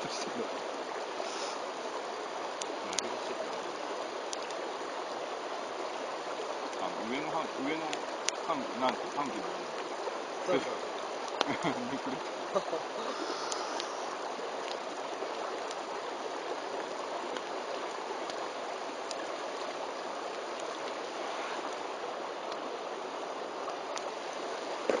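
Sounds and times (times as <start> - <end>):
bonfire hissing and crackling: 0.0 - 25.0.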